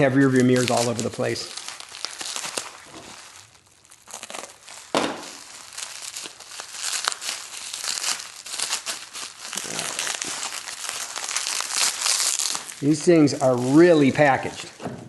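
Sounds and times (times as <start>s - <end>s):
packaging crinkling and tearing: 0.0s - 14.8s.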